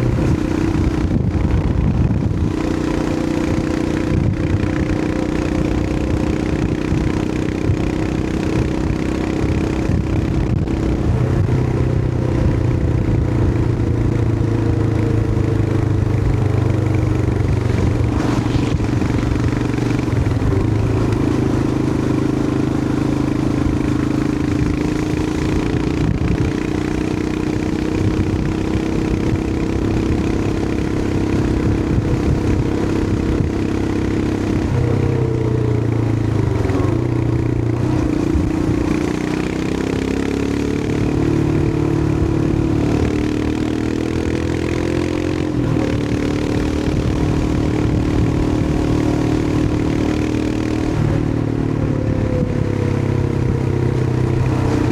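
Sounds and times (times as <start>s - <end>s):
motorcycle engine running: 0.0s - 54.9s
road noise: 0.0s - 54.9s
wind: 0.0s - 54.9s.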